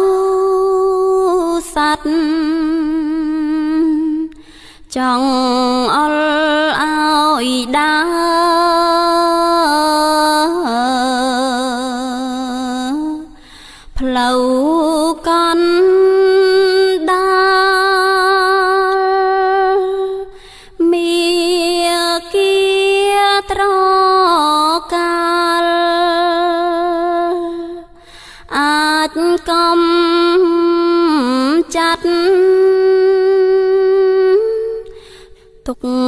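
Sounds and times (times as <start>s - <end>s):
person chanting: 0.0s - 4.3s, 4.9s - 36.0s.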